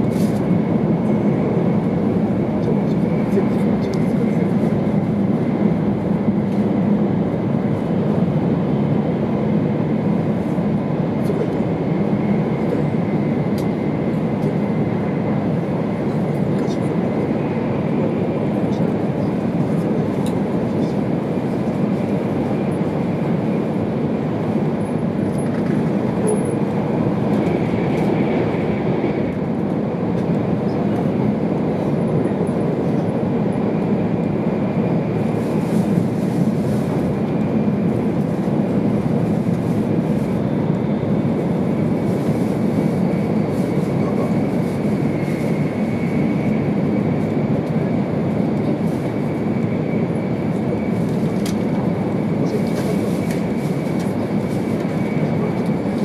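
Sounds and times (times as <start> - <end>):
train running rumble from inside: 0.0 - 56.0.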